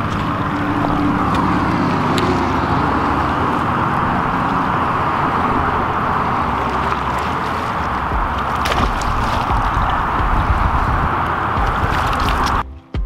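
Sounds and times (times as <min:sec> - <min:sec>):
water along rocky shore: 0:00.0 - 0:12.6
wind rushing: 0:00.0 - 0:12.6
low rumble: 0:00.0 - 0:12.8.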